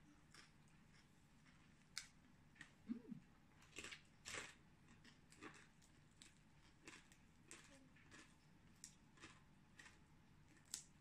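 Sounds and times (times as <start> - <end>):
crunching and chewing: 0.1 - 11.0.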